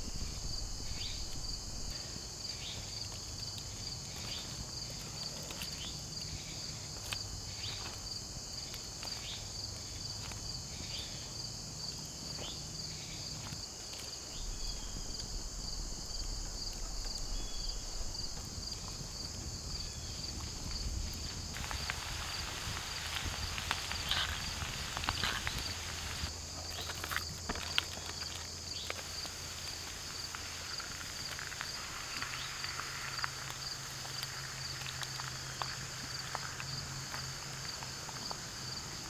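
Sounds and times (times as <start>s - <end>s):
campfire crackling: 0.0s - 39.0s
crickets trilling: 0.0s - 39.0s.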